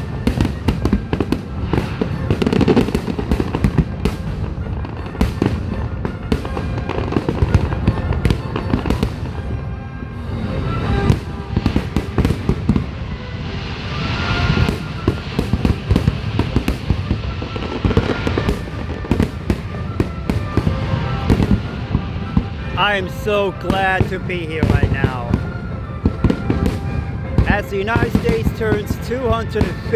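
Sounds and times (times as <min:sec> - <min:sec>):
hissing crackle of fireworks: 0:00.0 - 0:29.9.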